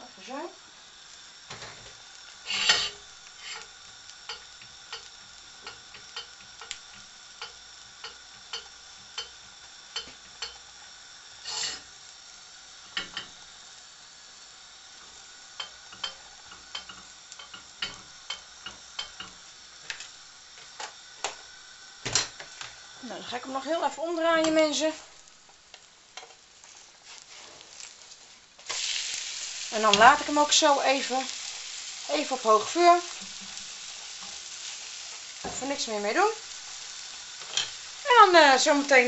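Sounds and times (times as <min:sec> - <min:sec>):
omelet sizzling in a pan: 0:00.0 - 0:39.0.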